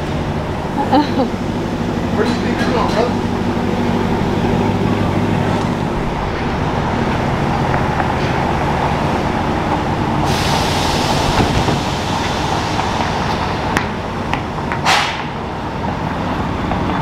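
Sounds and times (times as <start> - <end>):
low engine hum: 0.0 - 17.0
road traffic: 0.0 - 17.0.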